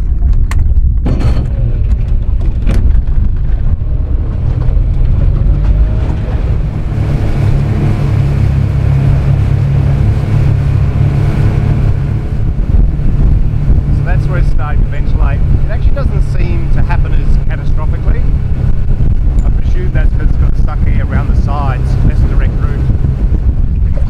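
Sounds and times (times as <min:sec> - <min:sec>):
outboard engine rumble: 0:00.0 - 0:24.0
wind buffeting microphone: 0:00.0 - 0:24.0
water rushing past: 0:02.7 - 0:24.0.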